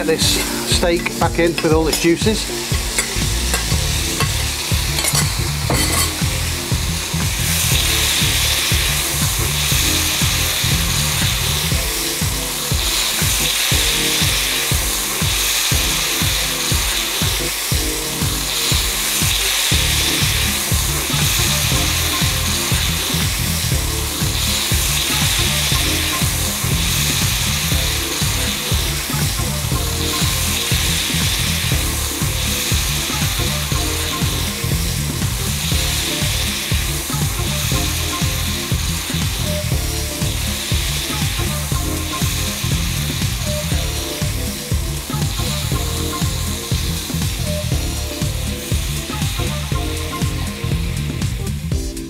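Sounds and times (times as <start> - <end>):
meat and vegetables sizzling in pan: 0.0 - 52.0.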